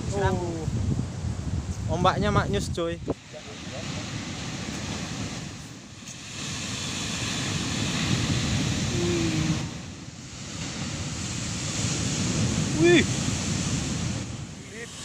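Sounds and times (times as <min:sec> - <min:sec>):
wind buffeting microphone: 0:00.0 - 0:15.0
sea surf breaking on beach: 0:02.2 - 0:15.0.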